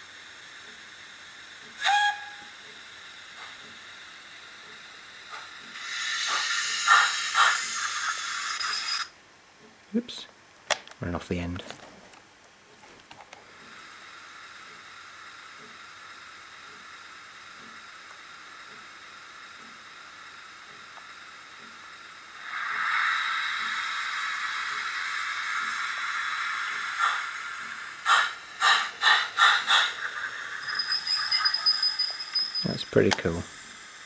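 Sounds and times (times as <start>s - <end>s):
loud steam hiss: 0.0s - 9.1s, 13.6s - 34.0s.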